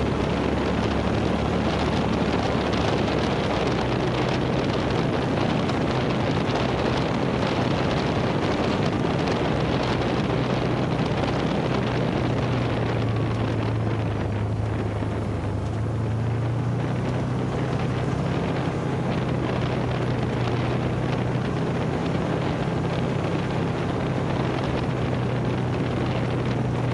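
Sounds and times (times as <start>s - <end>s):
utility vehicle engine humming: 0.0s - 26.9s
wind buffeting microphone: 0.0s - 26.9s.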